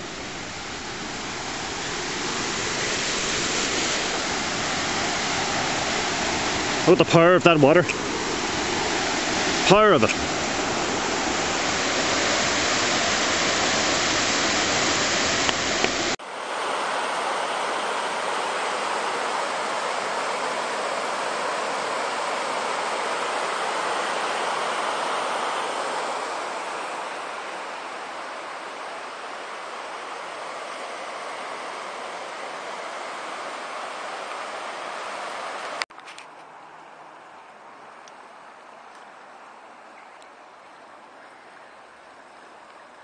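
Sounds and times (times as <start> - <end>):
river water rushing over rapids: 0.0 - 35.9.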